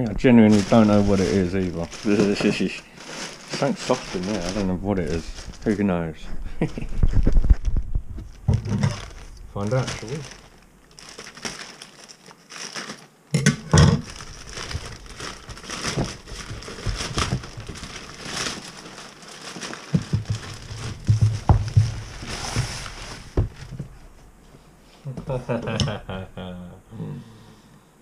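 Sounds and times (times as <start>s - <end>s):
packaging rustling and crinkling: 0.0s - 24.4s.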